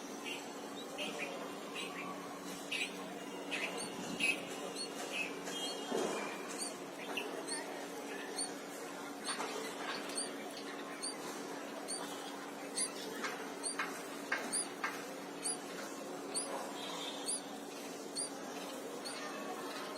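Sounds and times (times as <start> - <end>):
nestlings squeaky cheeps: 0.2 - 5.8, 6.4 - 8.6, 9.2 - 19.9.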